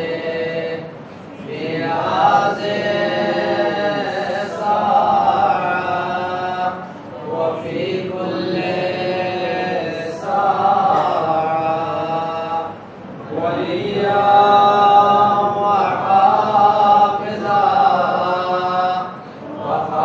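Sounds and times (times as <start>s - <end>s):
man chanting into a microphone: 0.0s - 20.0s.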